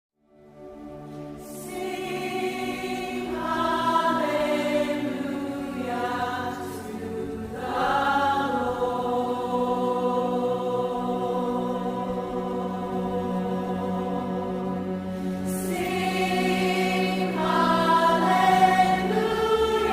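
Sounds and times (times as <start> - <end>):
choir singing long held notes: 0.4 - 19.9.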